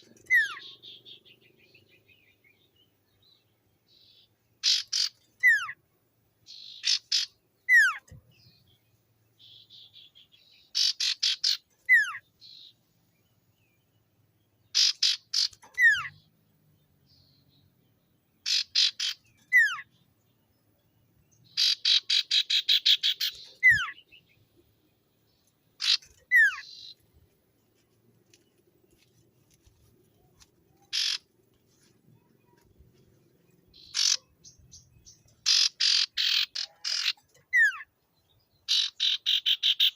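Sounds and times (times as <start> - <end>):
bird singing rapid notes: 0.0 - 5.8, 6.4 - 27.2, 28.3 - 39.9.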